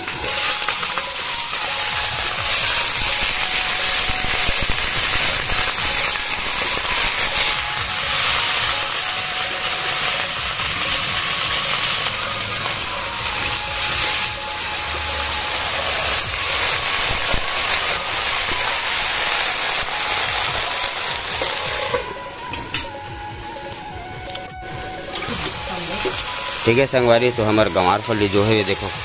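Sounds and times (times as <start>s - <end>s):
beans sizzling in hot oil: 0.0s - 29.0s.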